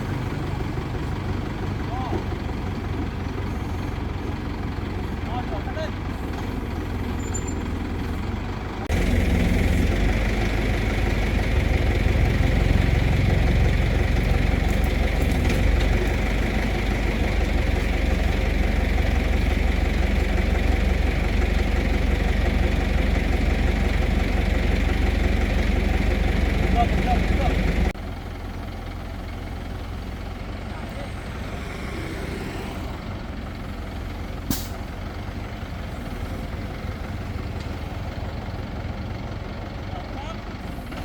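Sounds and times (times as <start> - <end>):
engine rumbling: 0.0 - 41.0.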